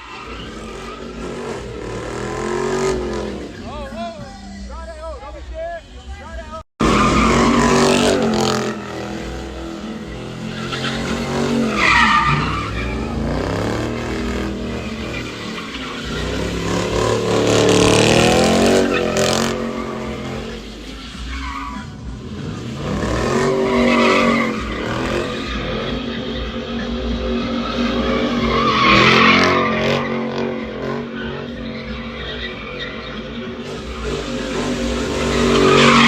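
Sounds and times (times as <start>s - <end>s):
car engine revving: 0.0s - 36.0s
tires squealing: 0.0s - 36.0s.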